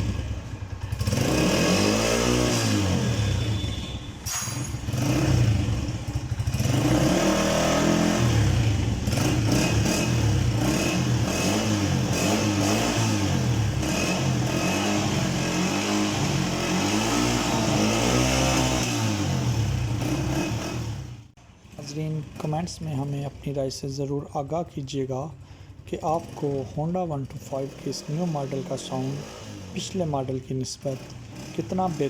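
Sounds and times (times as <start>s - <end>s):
motorcycle engine revving: 0.0s - 23.4s, 25.7s - 32.0s.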